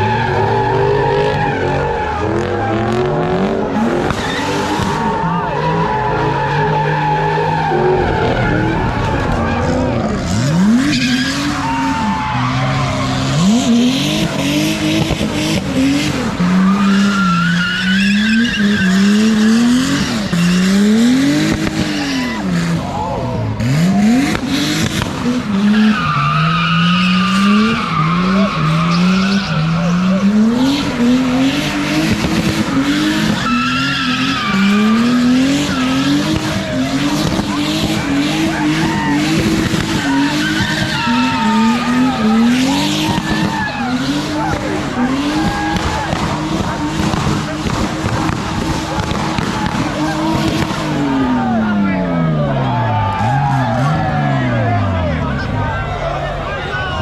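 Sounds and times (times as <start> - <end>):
tyres squealing: 0.0 - 22.6, 23.6 - 51.8
car engine revving hard: 0.0 - 55.7.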